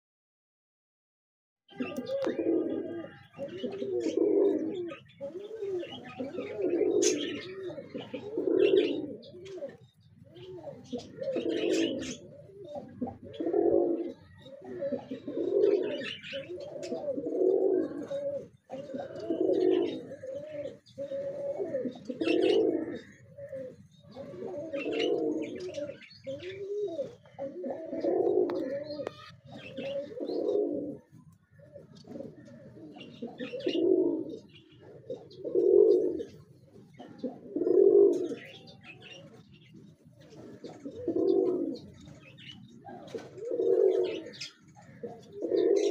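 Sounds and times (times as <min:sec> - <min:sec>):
pigeons cooing: 0:01.7 - 0:45.9.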